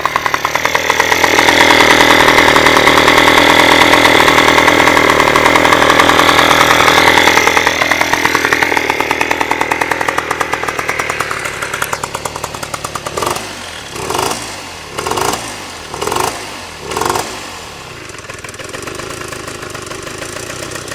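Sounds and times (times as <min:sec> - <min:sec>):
scooter engine idling: 0:00.0 - 0:20.9
scooter engine revving: 0:00.0 - 0:20.9.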